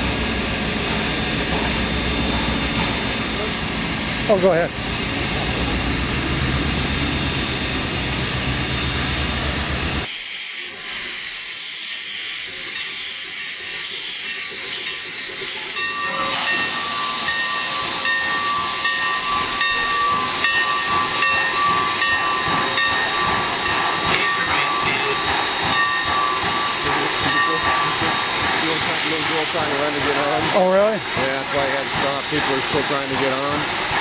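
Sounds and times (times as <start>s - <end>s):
steam locomotive hissing: 0.0s - 34.0s.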